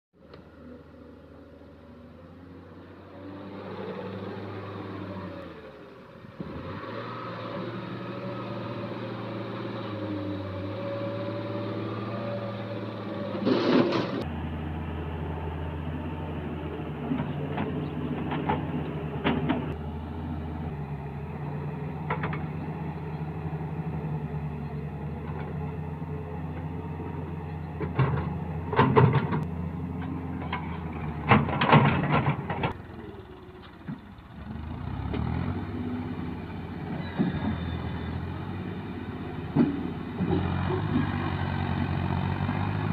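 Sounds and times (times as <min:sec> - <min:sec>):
excavator diesel engine running: 0:00.2 - 0:42.9.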